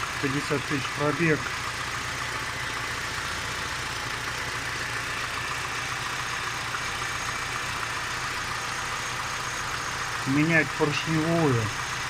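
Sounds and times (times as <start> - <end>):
car engine idling with knock: 0.0 - 12.0.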